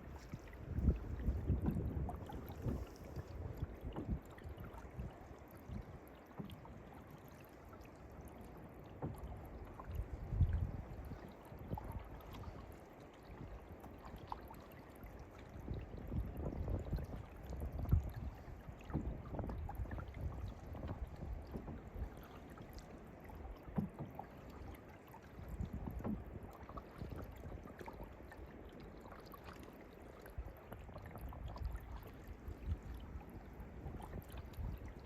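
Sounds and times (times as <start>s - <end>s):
paddle strokes in water: 0.0s - 35.0s
water lapping at hull: 0.0s - 35.0s.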